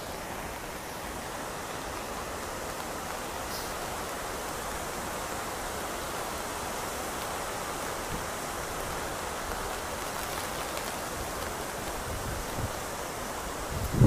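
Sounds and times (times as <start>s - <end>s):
pouring rain: 0.0s - 14.0s
waterfall rushing: 0.0s - 14.0s.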